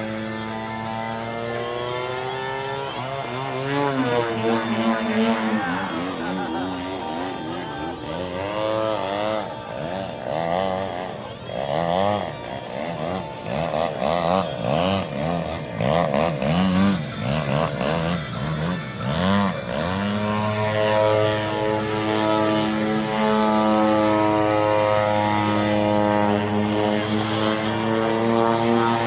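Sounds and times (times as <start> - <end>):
model airplane engine and propeller: 0.0 - 29.0.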